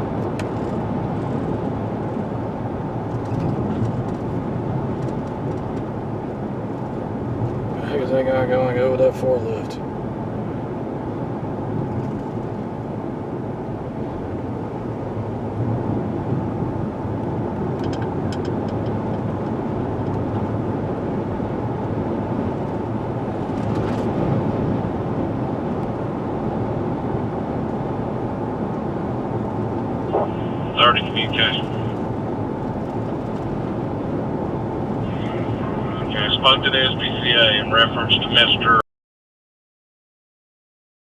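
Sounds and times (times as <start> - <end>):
car cabin road drone: 0.0 - 38.8.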